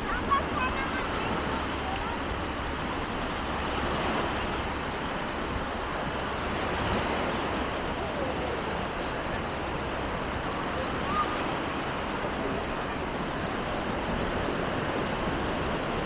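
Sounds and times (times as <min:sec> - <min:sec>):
faint distant voices: 0:00.0 - 0:16.0.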